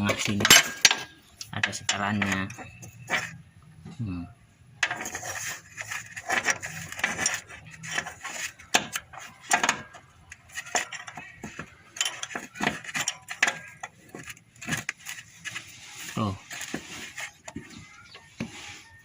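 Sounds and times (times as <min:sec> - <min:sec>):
metal tools clinking and scraping: 0:00.0 - 0:03.4, 0:04.8 - 0:19.0.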